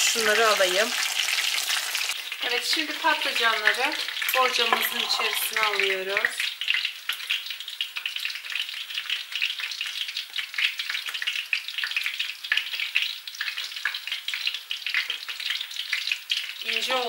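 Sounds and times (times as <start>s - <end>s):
oil crackling and popping: 0.0s - 17.0s
vegetables sizzling in hot oil: 0.0s - 17.0s.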